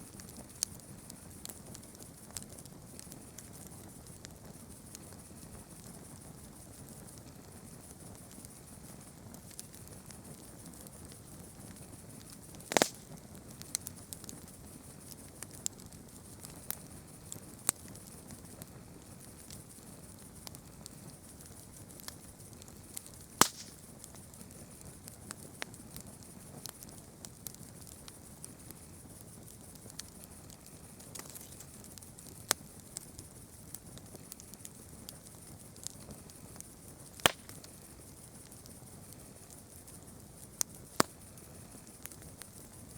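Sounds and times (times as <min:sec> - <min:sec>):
campfire high hiss: 0:00.0 - 0:42.9
campfire snaps and pops: 0:00.0 - 0:42.9.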